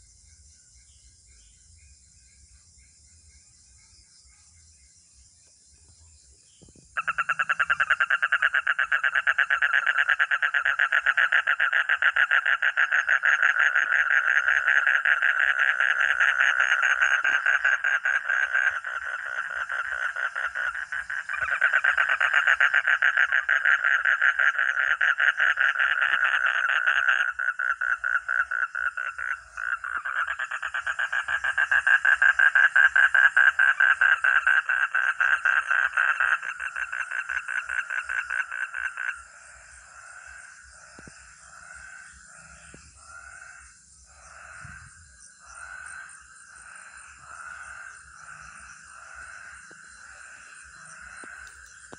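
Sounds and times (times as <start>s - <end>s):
frog trilling: 7.0s - 51.9s.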